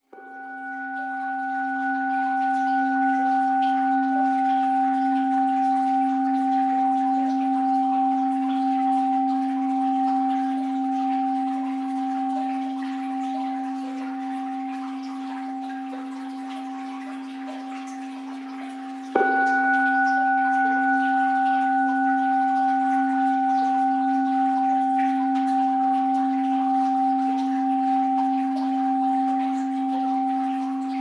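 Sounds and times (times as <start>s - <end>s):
bowl bell ringing: 0.0s - 31.0s
faint water sounds: 0.0s - 31.0s.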